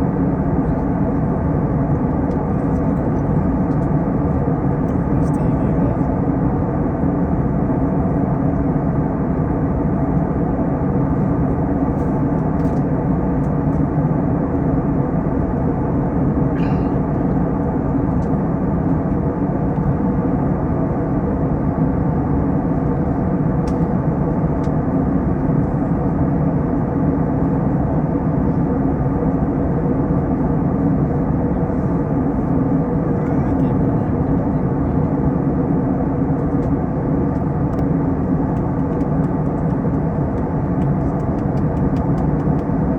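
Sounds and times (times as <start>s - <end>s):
airliner cabin engine drone: 0.0s - 42.9s.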